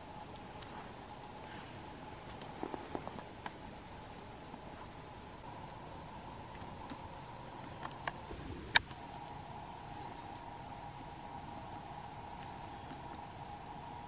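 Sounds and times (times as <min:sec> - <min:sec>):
small birds chirping: 0:00.0 - 0:14.0
steady low hiss: 0:00.0 - 0:14.0.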